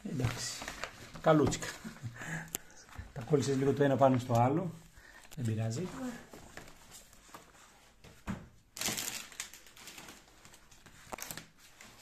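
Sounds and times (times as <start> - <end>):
paper rustling and crinkling: 0.0 - 2.2, 2.8 - 12.0.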